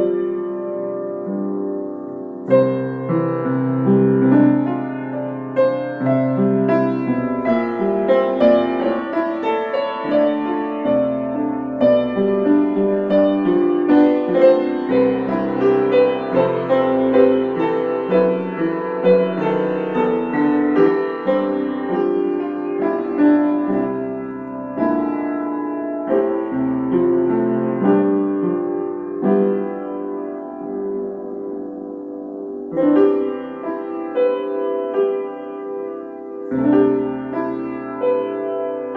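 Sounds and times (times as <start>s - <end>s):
solo piano melody: 0.0s - 38.9s.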